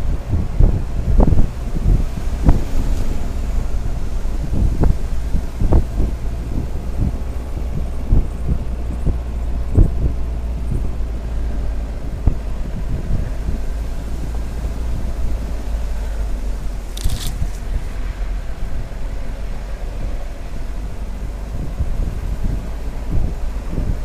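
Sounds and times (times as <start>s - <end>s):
low thumps over bumps: 0.0s - 24.0s
vehicle rumble: 0.0s - 24.0s
wind on microphone: 0.0s - 24.0s.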